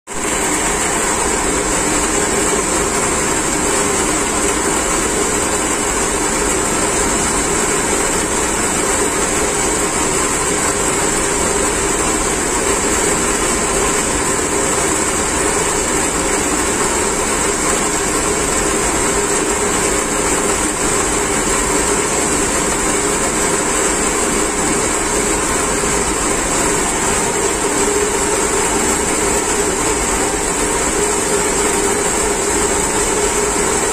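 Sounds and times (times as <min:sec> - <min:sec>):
pumps humming with hiss: 0:00.2 - 0:33.9.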